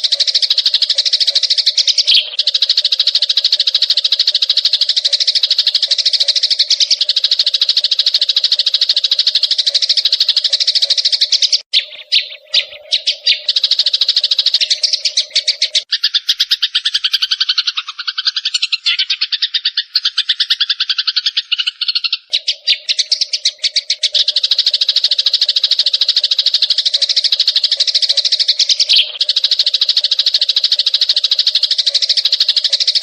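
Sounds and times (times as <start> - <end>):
sparrows chirping: 0.0 - 33.0.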